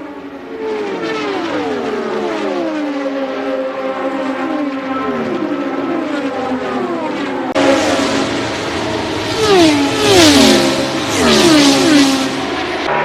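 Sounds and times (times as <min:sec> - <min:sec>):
race cars passing at speed: 0:00.0 - 0:13.0.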